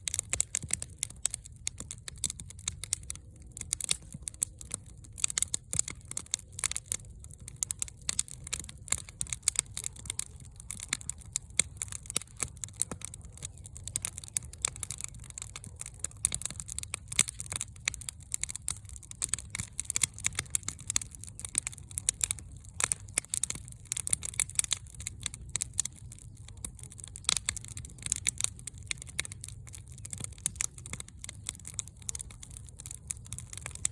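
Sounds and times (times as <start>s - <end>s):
fire crackling: 0.0s - 33.9s.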